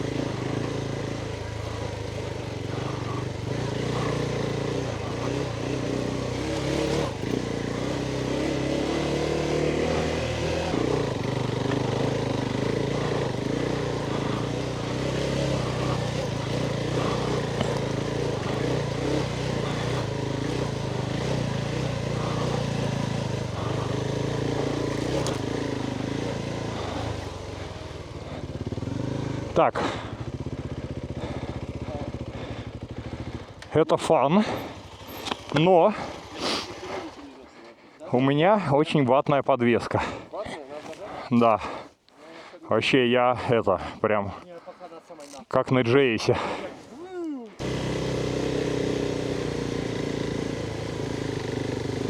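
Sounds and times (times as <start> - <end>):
motorcycle engine revving: 0.0 - 37.9, 45.3 - 52.0.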